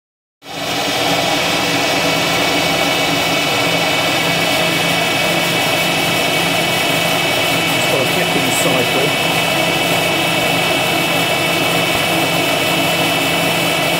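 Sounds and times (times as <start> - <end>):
milling machine whine: 0.5 - 13.9.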